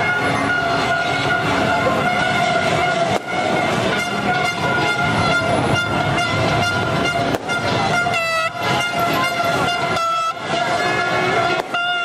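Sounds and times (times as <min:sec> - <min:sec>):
horns blaring: 0:00.0 - 0:12.0.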